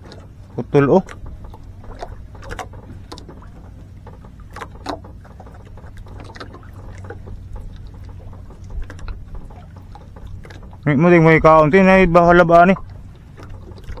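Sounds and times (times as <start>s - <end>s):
light clicks and knocks: 0.0s - 14.0s
low motor hum: 0.0s - 14.0s.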